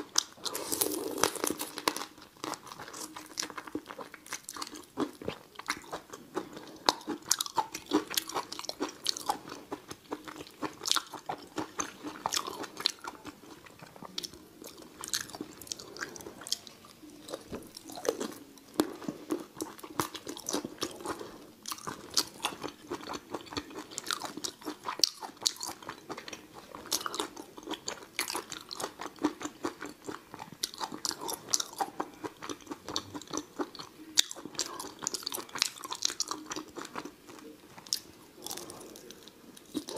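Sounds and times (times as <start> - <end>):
person chewing shrimp: 0.0 - 39.9.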